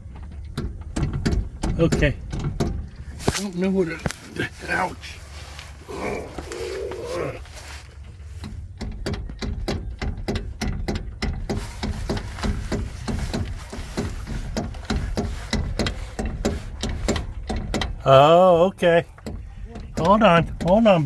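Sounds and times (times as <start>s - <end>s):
car suspension creaking and clunking: 0.0s - 21.0s.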